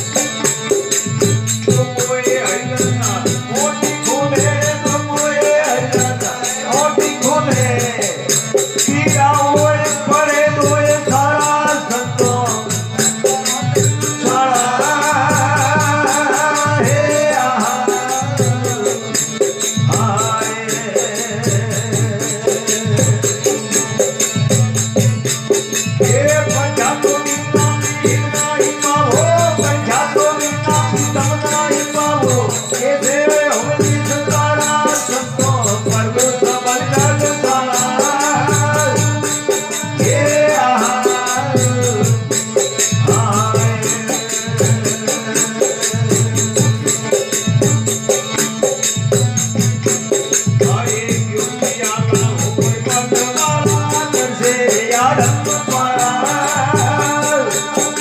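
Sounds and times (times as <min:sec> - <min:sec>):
hand percussion jingles: 0:00.0 - 0:58.0
harmonium: 0:00.0 - 0:58.0
man singing: 0:00.0 - 0:58.0.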